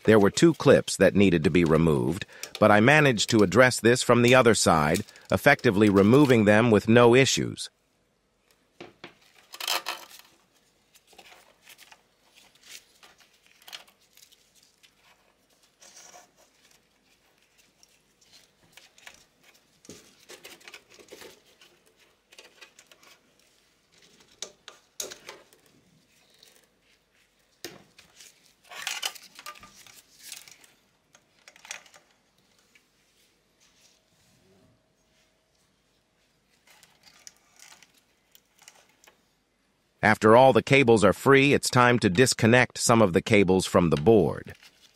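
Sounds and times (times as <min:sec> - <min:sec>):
cables rustling and clicking: 0:00.0 - 0:07.5, 0:08.4 - 0:39.4, 0:44.0 - 0:44.9.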